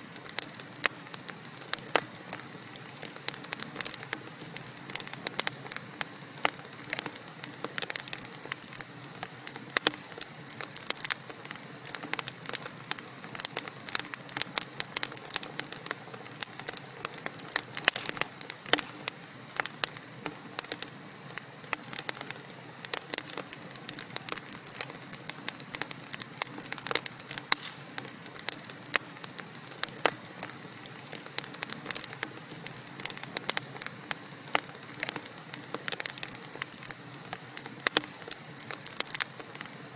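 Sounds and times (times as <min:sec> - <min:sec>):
logs crackling and popping: 0:00.0 - 0:39.9
soft steady hiss: 0:00.0 - 0:39.9.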